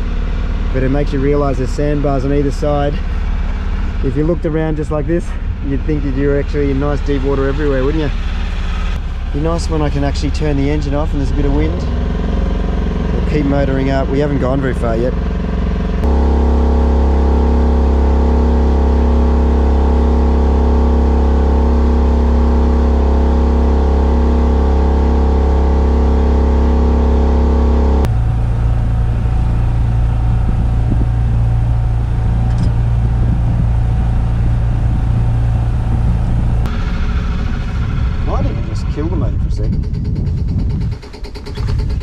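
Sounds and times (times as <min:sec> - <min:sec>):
boat motor running: 0:00.0 - 0:42.0.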